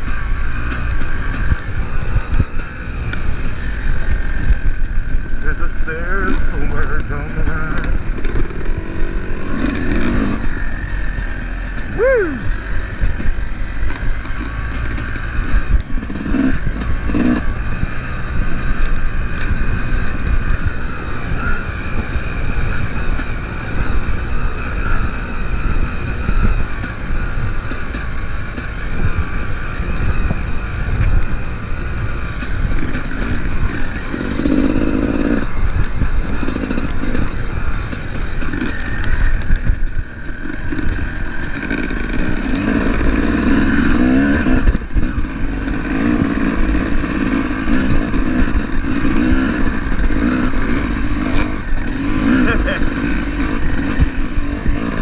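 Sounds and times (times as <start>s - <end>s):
bike rattling over bumps: 0.0s - 55.0s.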